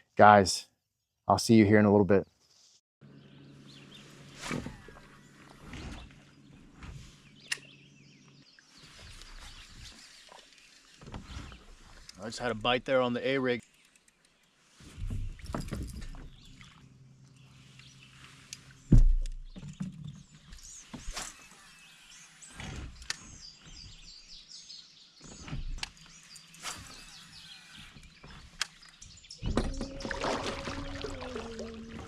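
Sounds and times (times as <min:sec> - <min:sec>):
birds chirping: 0:03.0 - 0:32.0.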